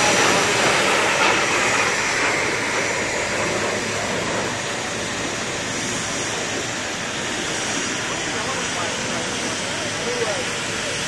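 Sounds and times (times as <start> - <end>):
jet engine with high whine: 0.0 - 11.0.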